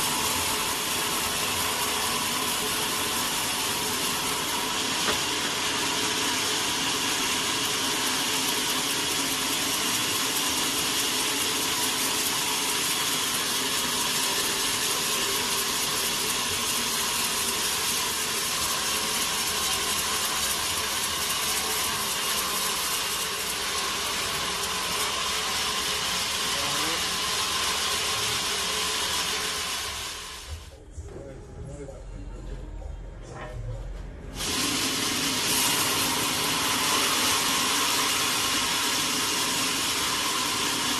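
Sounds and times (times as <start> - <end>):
sawmill machinery running: 0.0 - 30.8, 34.3 - 40.9.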